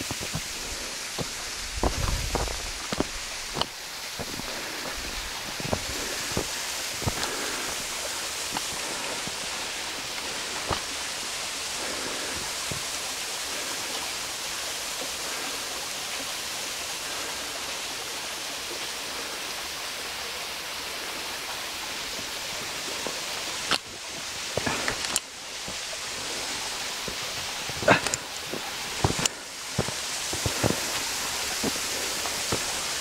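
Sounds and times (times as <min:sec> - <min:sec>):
water running under ice: 0:00.0 - 0:33.0.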